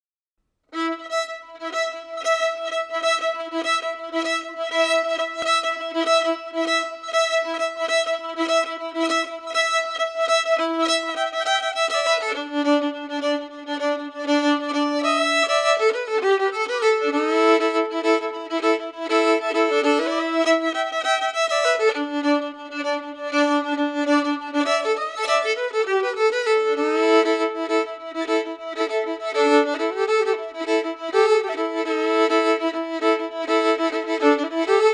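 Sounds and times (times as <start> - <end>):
violin playing slow held notes: 0.7 - 34.9.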